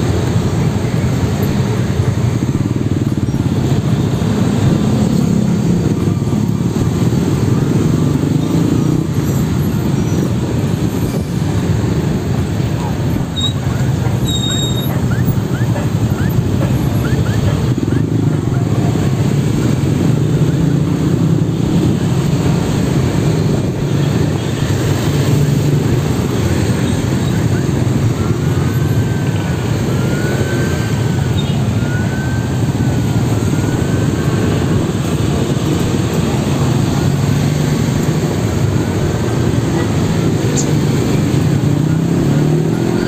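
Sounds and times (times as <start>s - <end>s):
motorcycle engine hum: 0.0s - 43.0s
road and wind noise: 0.0s - 43.0s.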